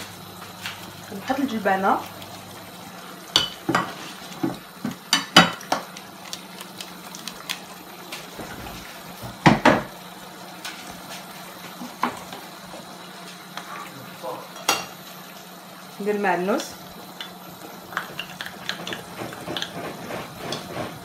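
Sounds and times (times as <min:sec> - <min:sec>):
sauce simmering: 0:00.0 - 0:21.0.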